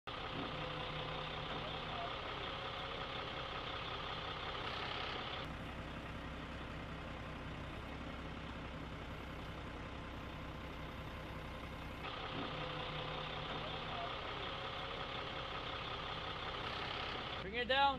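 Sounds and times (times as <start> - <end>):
truck diesel engine idling: 0.0 - 17.9.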